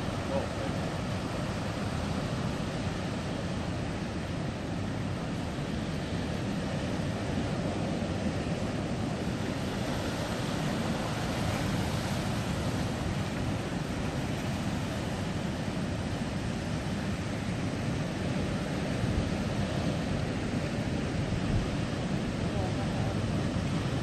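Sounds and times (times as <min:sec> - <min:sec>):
ocean waves breaking: 0:00.0 - 0:24.0
wind on microphone: 0:00.0 - 0:24.0.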